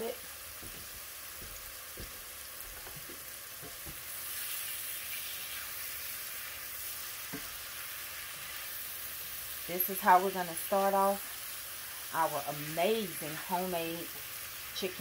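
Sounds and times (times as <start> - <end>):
chicken sizzling in butter: 0.0 - 15.0.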